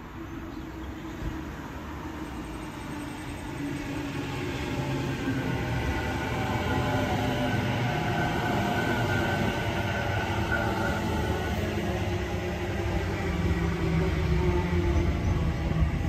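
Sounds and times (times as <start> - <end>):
train wheels rumbling on rail: 1.0 - 16.0.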